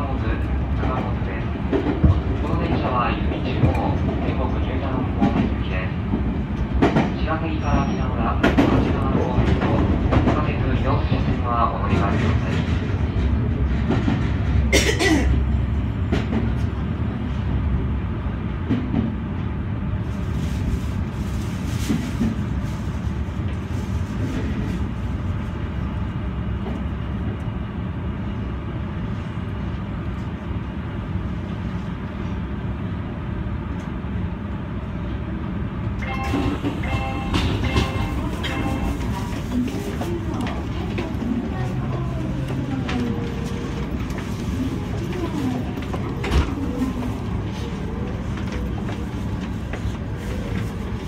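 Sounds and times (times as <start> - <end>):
train wheels rumbling on track: 0.0 - 51.0.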